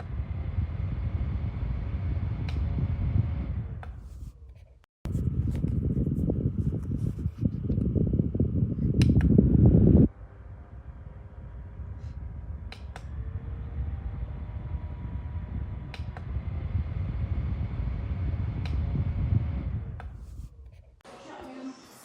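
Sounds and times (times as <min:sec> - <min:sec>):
desk fan running: 0:00.0 - 0:03.8, 0:05.1 - 0:20.0.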